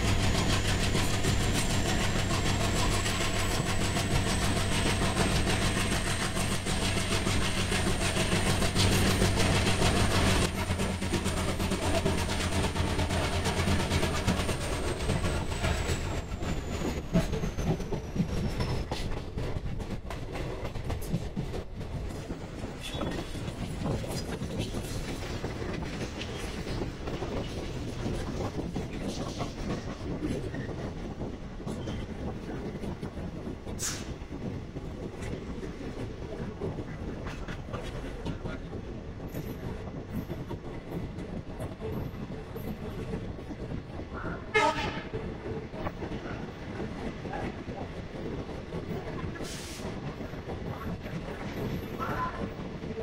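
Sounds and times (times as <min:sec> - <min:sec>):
train wheels clattering over rail joints: 0:00.0 - 0:53.0.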